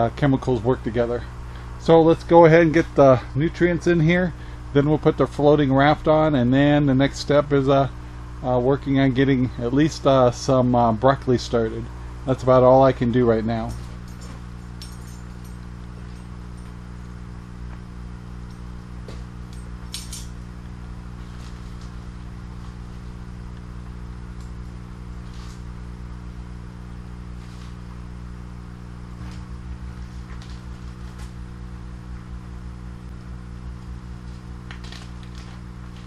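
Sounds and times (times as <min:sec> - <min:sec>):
air pump humming: 0:00.0 - 0:36.0.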